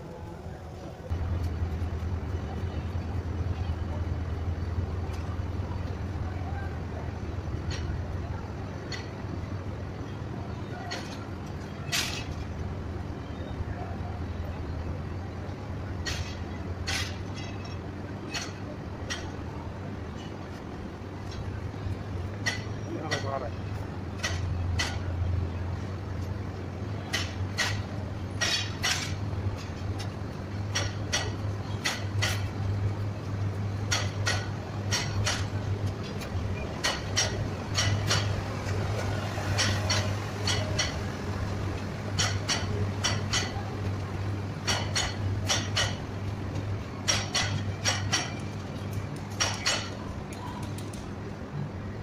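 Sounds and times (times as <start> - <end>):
train wheels clanking over rail joints: 1.1 - 13.0, 14.8 - 51.0.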